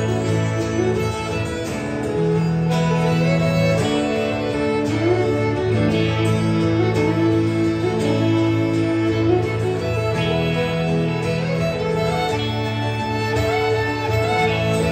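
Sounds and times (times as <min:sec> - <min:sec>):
fiddle playing: 0:00.0 - 0:14.9
guitar accompaniment: 0:00.0 - 0:14.9.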